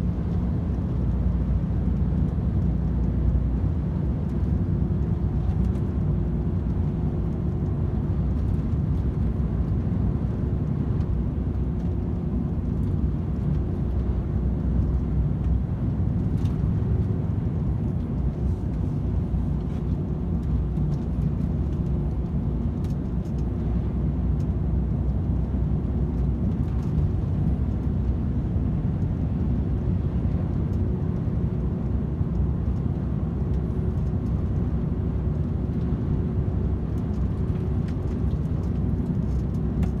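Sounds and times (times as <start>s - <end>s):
truck engine and road rumble: 0.0s - 40.0s.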